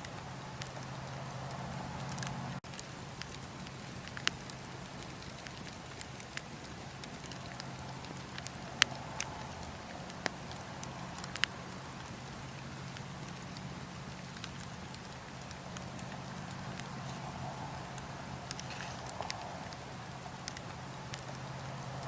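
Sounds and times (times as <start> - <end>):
bonfire crackling: 0.0 - 22.0
low background hiss: 0.0 - 22.0.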